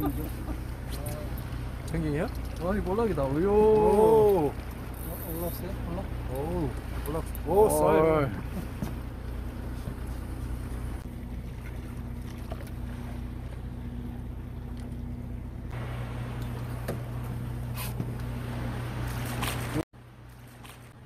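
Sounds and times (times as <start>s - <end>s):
boat engine idling hum: 0.0s - 21.0s.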